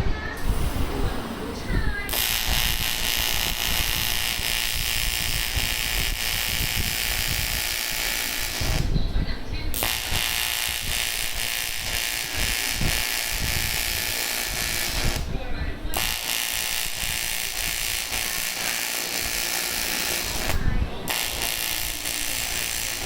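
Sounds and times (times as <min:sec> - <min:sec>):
welding arc buzzing: 0:00.0 - 0:23.0.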